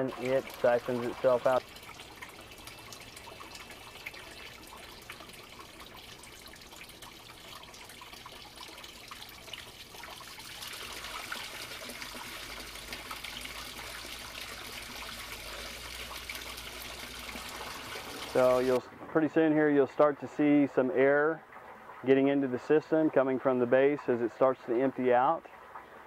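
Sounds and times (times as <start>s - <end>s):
water pouring from pipe into tank: 0.0s - 18.8s, 19.8s - 26.0s.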